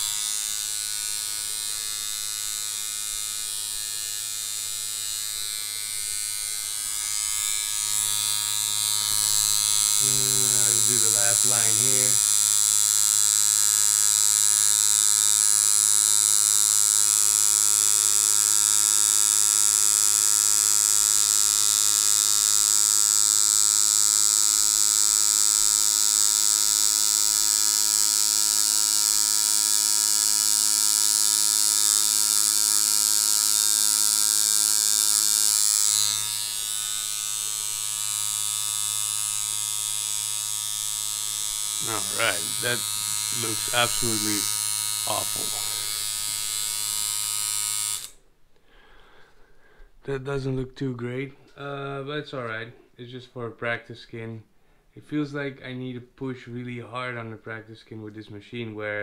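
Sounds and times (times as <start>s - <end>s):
tattoo machine running: 0.0s - 48.3s.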